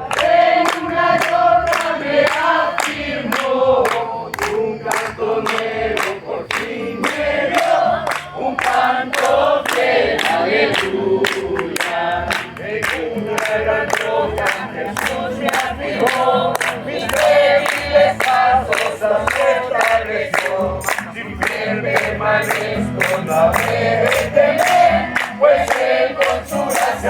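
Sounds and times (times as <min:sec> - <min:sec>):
congregation singing a hymn: 0:00.0 - 0:27.0.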